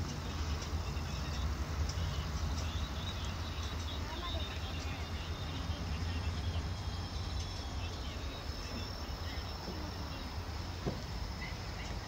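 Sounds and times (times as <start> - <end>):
steady low rumble: 0.0 - 12.0
faint chirps: 0.2 - 12.0
insects trilling: 0.6 - 12.0.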